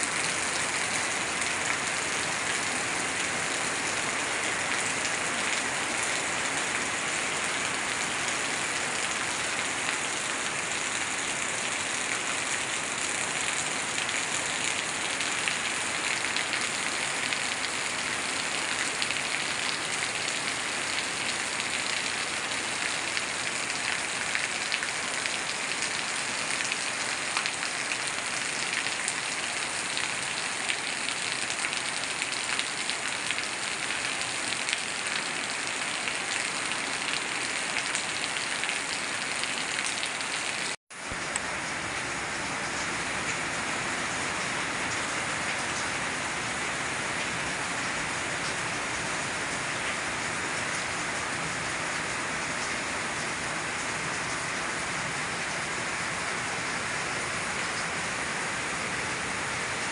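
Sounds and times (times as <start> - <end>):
heavy rain on plants and concrete: 0.0 - 59.9.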